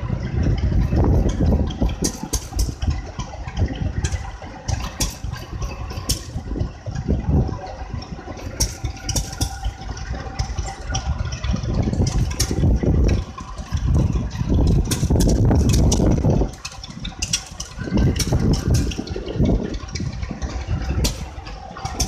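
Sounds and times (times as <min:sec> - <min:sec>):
engine running: 0:00.0 - 0:22.0
sharp clicks and rattles: 0:00.0 - 0:22.0.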